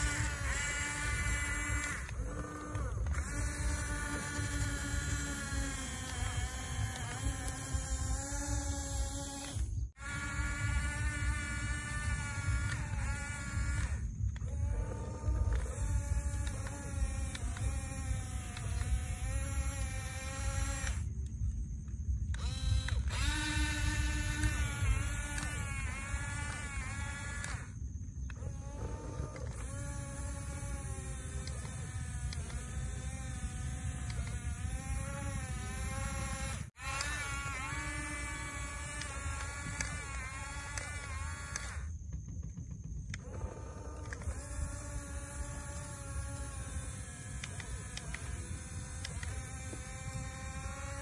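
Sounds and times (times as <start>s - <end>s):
toy bulldozer motor whining: 0.0s - 51.0s.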